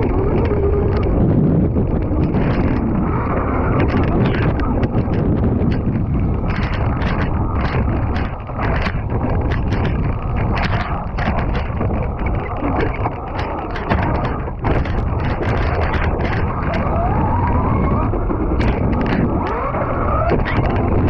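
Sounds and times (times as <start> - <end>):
dirt bike rattling over rough ground: 0.0 - 21.0
wind buffeting microphone: 0.0 - 21.0.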